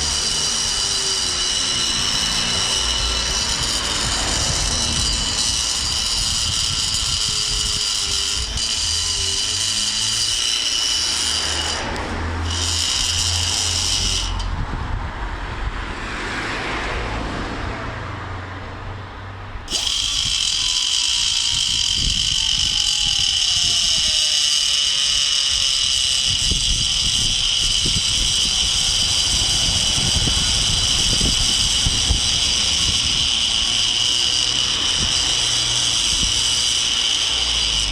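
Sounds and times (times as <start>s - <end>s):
die grinder grinding metal: 0.0s - 14.6s, 19.7s - 37.9s.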